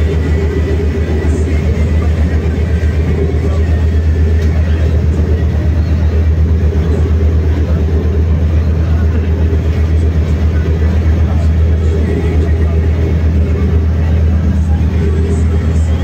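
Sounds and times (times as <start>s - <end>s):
diesel engine throbbing: 0.0s - 16.0s
rushing noise: 0.0s - 16.0s.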